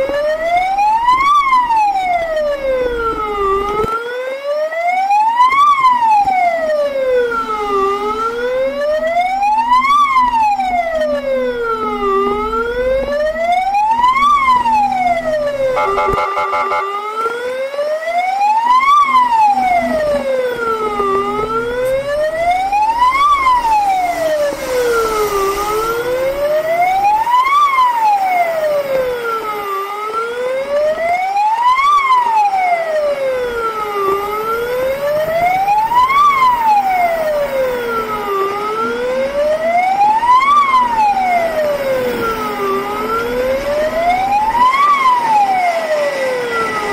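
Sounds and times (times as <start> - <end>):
siren wailing: 0.0 - 46.9.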